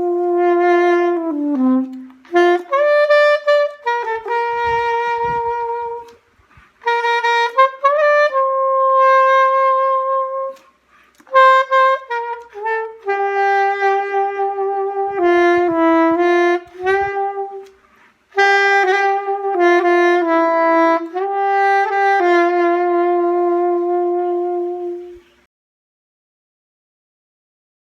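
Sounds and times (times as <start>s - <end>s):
solo saxophone melody: 0.0s - 25.5s.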